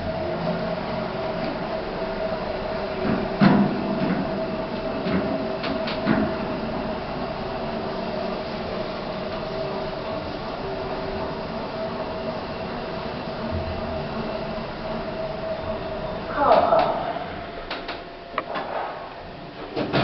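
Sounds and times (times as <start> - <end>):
lift car humming: 0.0 - 20.0.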